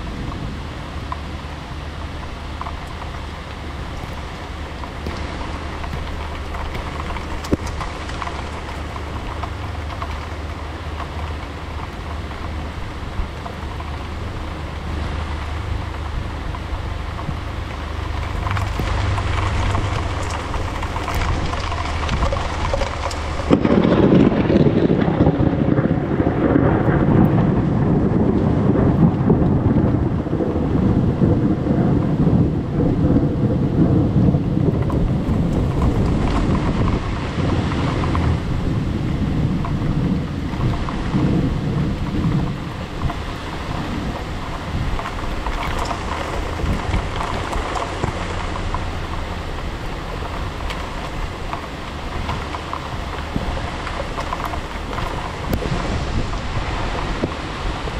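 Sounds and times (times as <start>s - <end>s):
heavy rain hissing: 0.0s - 57.9s
thunder rumbling: 0.0s - 57.9s.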